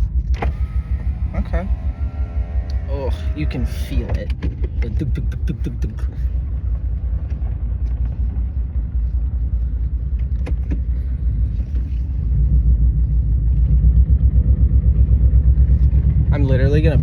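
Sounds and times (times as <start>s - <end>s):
car engine with uneven pulsing rumble: 0.0s - 17.0s.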